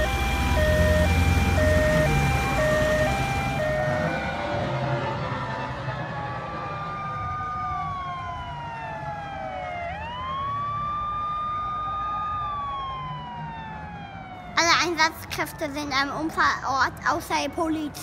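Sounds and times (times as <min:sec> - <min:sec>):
toy fire engine siren wailing: 0:00.0 - 0:14.9.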